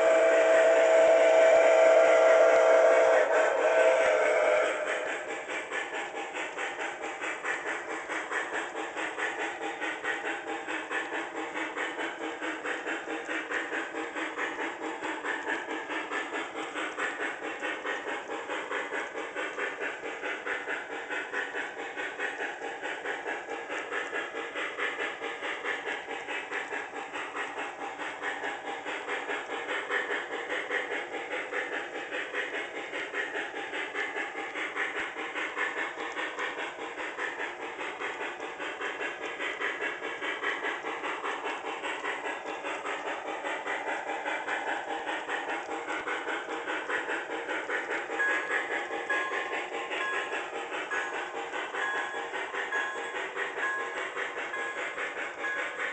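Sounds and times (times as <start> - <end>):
model train steam chuffing: 0.0 - 55.9.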